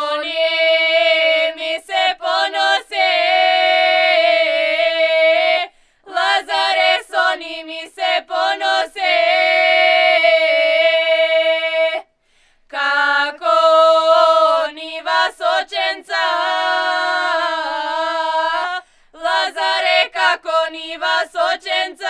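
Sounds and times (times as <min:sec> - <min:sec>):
women singing unaccompanied: 0:00.0 - 0:12.1, 0:12.7 - 0:22.0.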